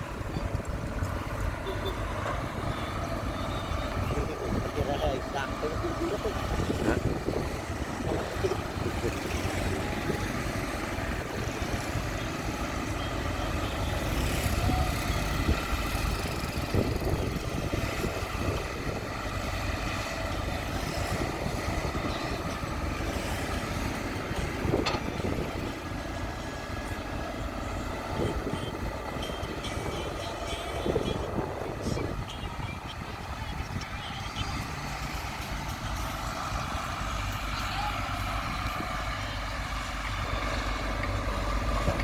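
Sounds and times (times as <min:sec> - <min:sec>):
heavy machinery diesel engine: 0:00.0 - 0:42.0.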